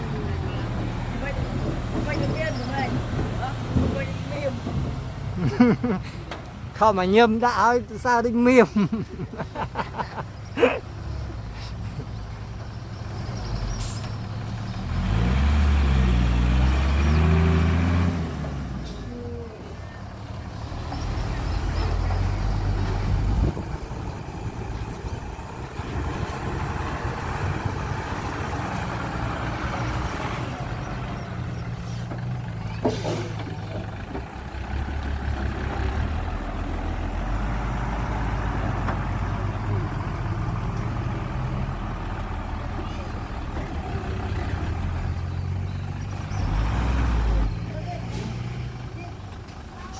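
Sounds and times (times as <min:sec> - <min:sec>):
heavy diesel machinery engines: 0:00.0 - 0:49.9.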